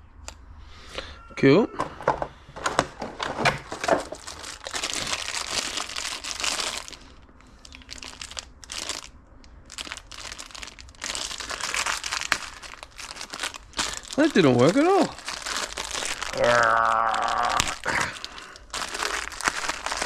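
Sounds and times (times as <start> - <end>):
packaging rustling: 1.8 - 9.1, 9.7 - 20.0.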